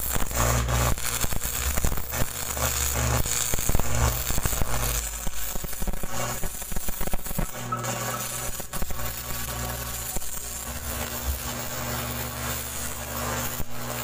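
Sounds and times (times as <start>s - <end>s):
arc welding rod crackling: 0.0s - 14.0s.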